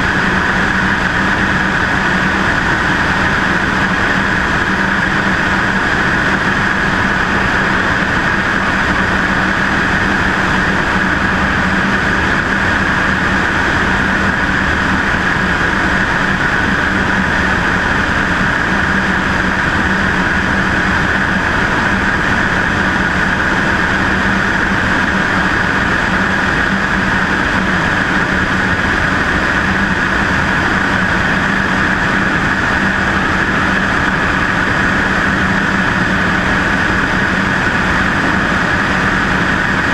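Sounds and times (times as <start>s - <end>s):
airflow rush: 0.0s - 39.9s
plane engine and propeller drone: 0.0s - 39.9s.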